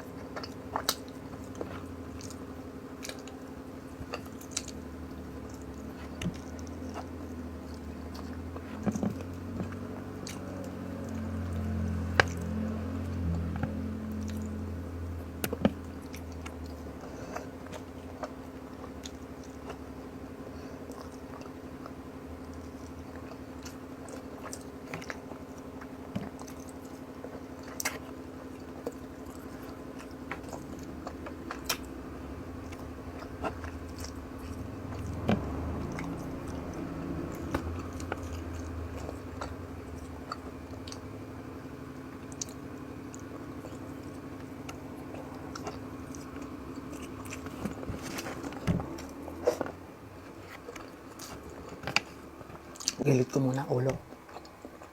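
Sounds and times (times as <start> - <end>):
close chewing and eating: 0.0 - 54.9
steady low hum: 0.0 - 54.9.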